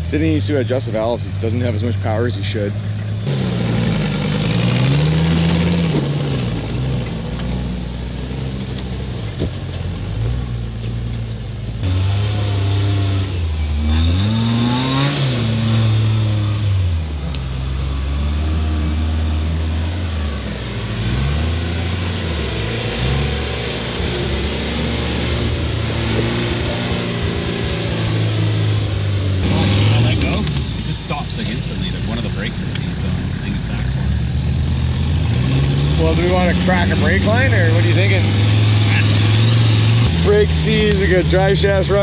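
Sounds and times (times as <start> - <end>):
diesel engine revving: 0.0 - 42.0.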